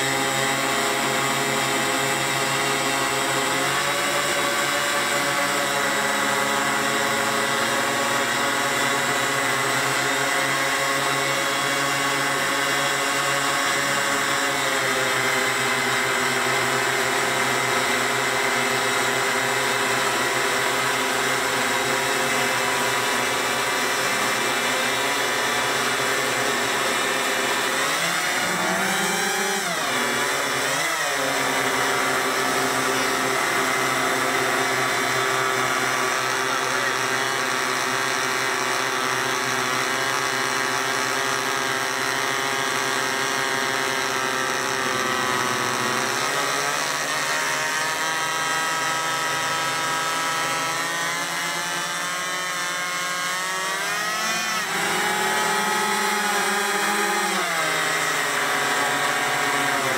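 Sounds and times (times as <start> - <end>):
model aircraft engines buzzing: 0.0 - 59.9.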